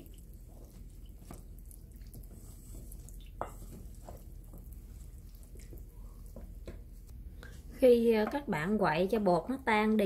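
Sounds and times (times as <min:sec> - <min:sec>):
spoon stirring wet mixture in bowl: 0:00.0 - 0:08.5.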